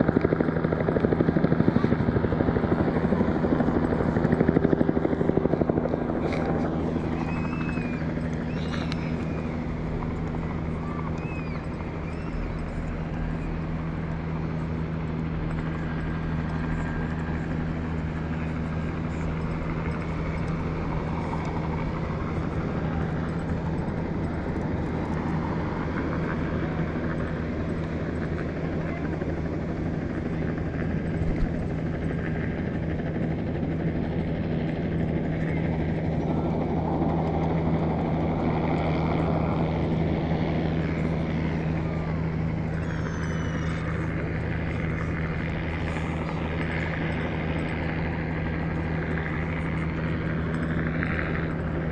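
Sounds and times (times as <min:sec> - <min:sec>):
low mechanical drone: 0:00.0 - 0:51.9
outdoor noise: 0:00.0 - 0:51.9.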